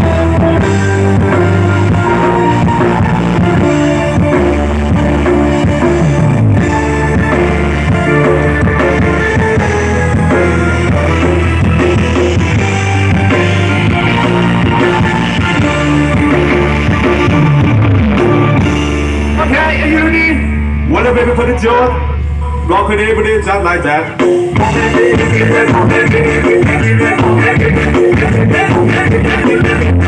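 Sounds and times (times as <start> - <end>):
loud music with guitar and bass: 0.0 - 30.0.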